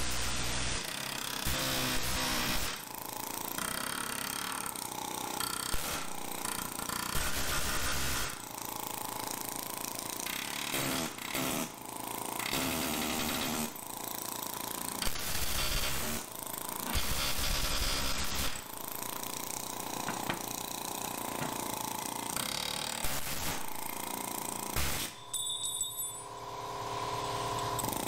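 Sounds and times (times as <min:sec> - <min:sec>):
pneumatic air hammer on steel: 0:00.0 - 0:25.3.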